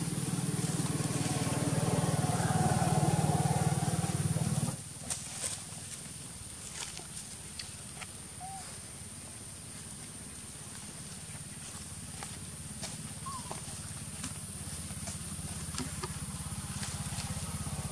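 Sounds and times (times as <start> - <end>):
engine running: 0.0 - 17.9.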